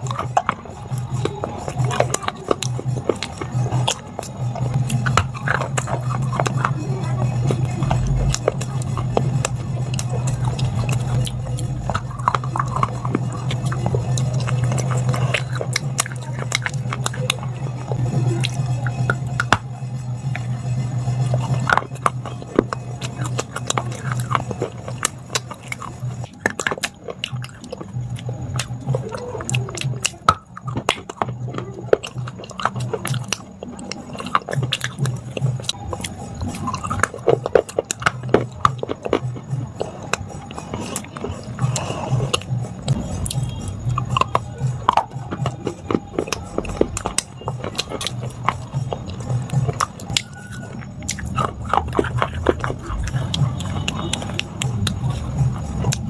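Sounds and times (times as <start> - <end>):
chewing hard brittle clay: 0.0 - 56.0.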